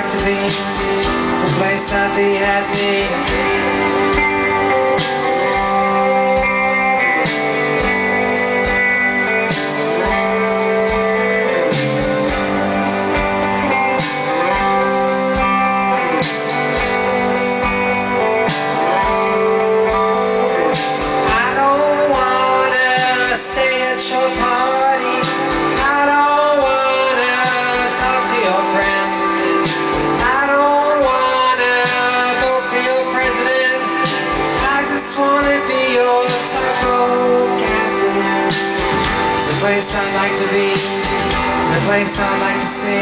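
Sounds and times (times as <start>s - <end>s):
bending lead guitar line: 0.0s - 43.0s
live rock band playing: 0.0s - 43.0s.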